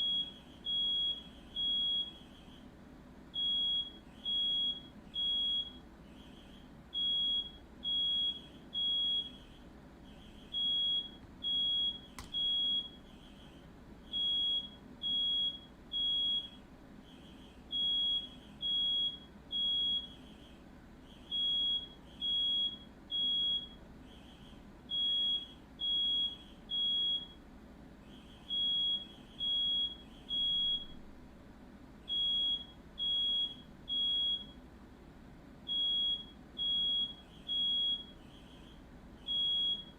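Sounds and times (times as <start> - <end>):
smoke alarm beeping: 0.0 - 2.6, 3.3 - 13.5, 14.1 - 20.5, 21.1 - 27.4, 28.1 - 31.1, 32.1 - 34.6, 35.7 - 39.9.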